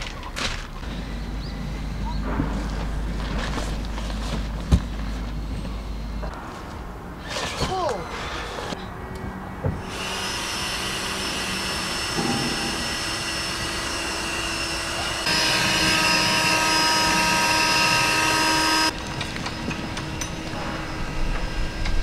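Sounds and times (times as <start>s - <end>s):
engine drone with held tones: 0.6s - 6.4s, 8.7s - 22.0s.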